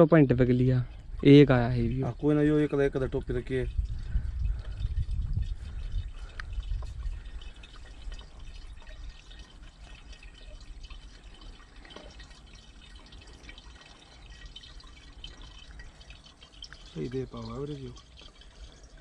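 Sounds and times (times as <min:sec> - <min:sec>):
fuel trickling into funnel: 0:00.0 - 0:19.0.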